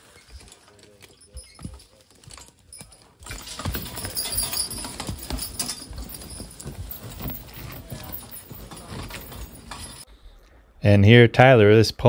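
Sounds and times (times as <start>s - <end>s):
hooves thudding on forest floor: 0.0s - 10.1s
metal harness jingling: 0.0s - 10.1s.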